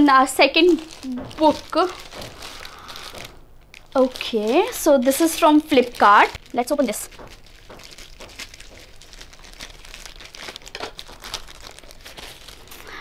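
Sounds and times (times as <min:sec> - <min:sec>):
parcel wrapping crinkling: 0:00.0 - 0:13.0.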